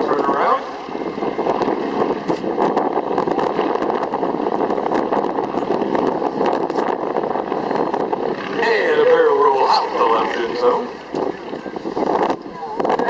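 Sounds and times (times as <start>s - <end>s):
biplane engine droning: 0.0s - 13.0s.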